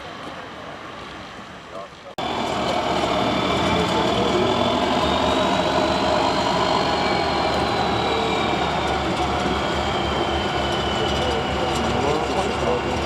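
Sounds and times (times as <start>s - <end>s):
high whine: 2.2s - 13.0s
truck engine running under load: 2.2s - 13.0s.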